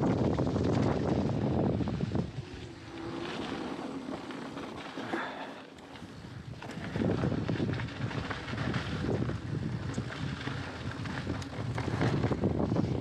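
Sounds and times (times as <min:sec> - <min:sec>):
wind rushing over microphone: 0:00.0 - 0:04.6, 0:06.1 - 0:13.0
bike rattling: 0:00.0 - 0:13.0
bike tyres on dirt: 0:00.0 - 0:13.0.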